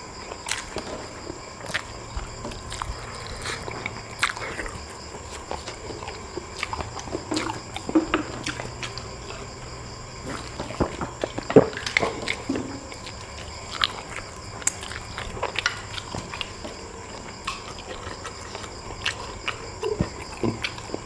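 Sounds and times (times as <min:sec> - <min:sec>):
chewing and sucking: 0:00.2 - 0:21.0.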